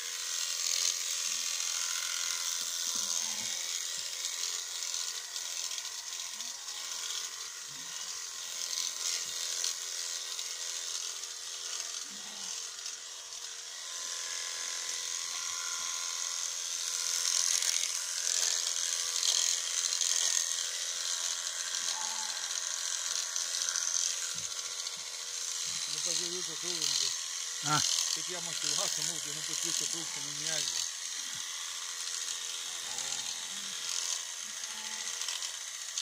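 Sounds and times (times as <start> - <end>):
electric clippers buzzing: 0.0 - 36.0.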